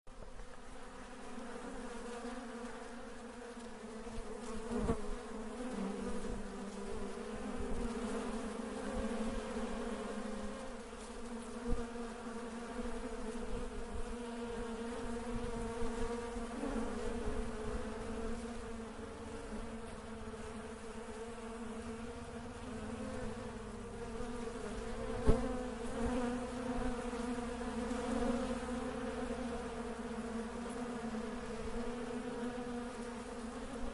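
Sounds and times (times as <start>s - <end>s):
honey bees buzzing: 0.1s - 33.9s.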